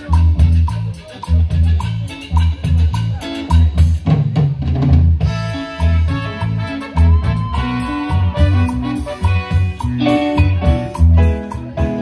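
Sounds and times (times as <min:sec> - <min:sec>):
hand percussion: 0:00.0 - 0:04.4, 0:05.7 - 0:12.0
live band dance music: 0:00.0 - 0:12.0.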